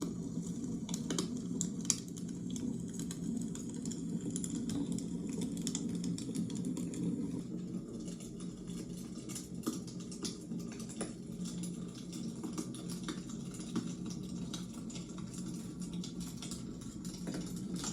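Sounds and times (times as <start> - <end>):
wood fire crackling: 0.0 - 17.9.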